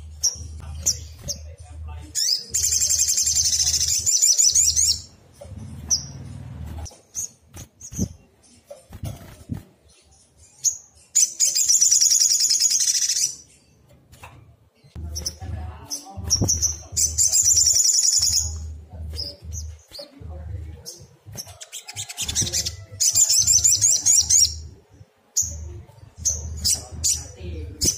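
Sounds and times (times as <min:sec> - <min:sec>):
bird twittering trills: 0:00.0 - 0:09.3, 0:09.9 - 0:14.0, 0:14.8 - 0:20.2, 0:20.8 - 0:24.8.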